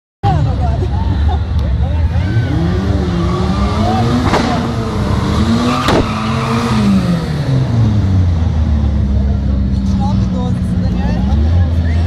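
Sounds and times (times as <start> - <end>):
car engines idling: 0.2 - 12.0
engine revving: 2.2 - 12.0.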